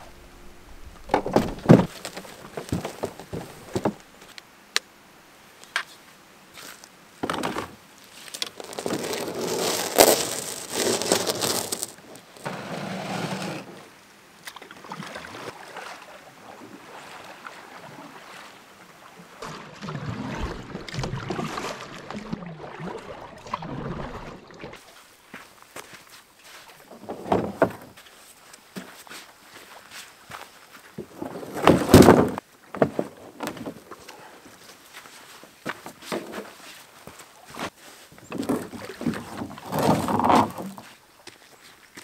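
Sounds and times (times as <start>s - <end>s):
paddling in water: 0.0s - 4.3s, 7.2s - 30.1s, 31.0s - 42.0s.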